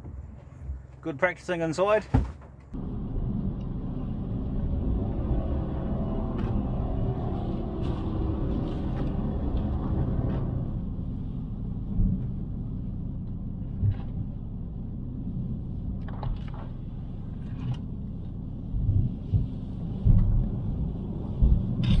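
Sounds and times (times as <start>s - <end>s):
engine and tyres rumbling: 2.2s - 22.0s.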